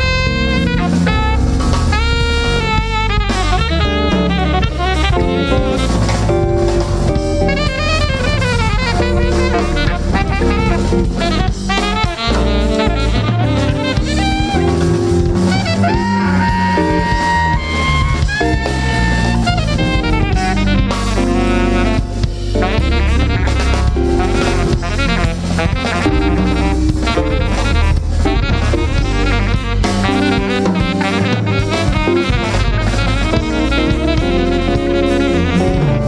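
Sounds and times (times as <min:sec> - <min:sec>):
jazz quartet playing: 0:00.0 - 0:36.0.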